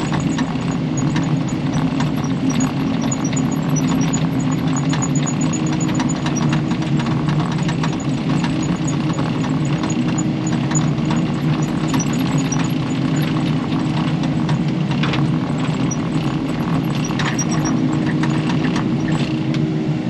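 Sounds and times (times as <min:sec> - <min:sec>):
machine clicks and clanks: 0:00.0 - 0:19.6
excavator diesel engine running: 0:00.0 - 0:20.0.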